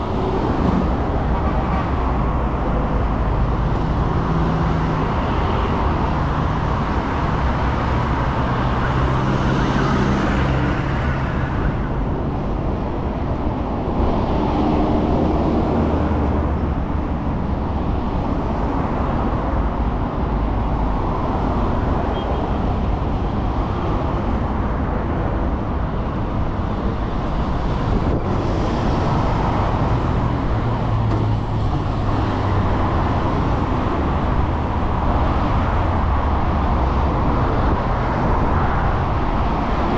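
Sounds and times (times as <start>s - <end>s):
vehicles passing close by: 0.0s - 39.9s.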